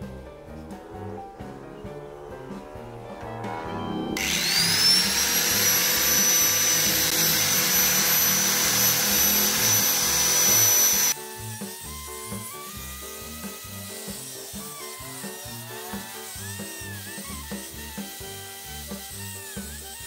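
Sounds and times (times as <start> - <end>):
angle grinder whining: 1.2 - 20.0.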